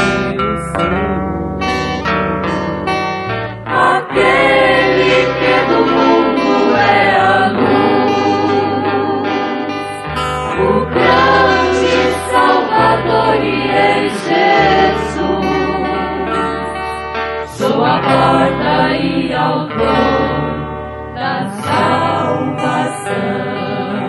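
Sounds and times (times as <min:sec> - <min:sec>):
sustained bass line: 0:00.0 - 0:24.0
choir singing gospel song: 0:02.4 - 0:24.0.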